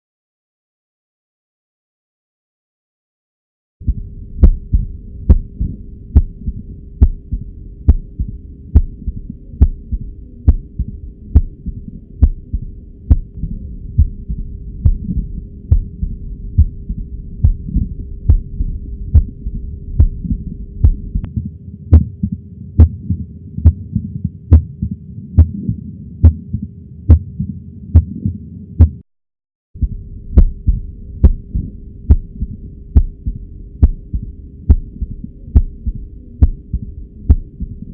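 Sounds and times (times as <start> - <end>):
heartbeat thumps with click: 3.8 - 29.0, 29.8 - 37.9
steady hum: 3.8 - 29.0, 29.8 - 37.9.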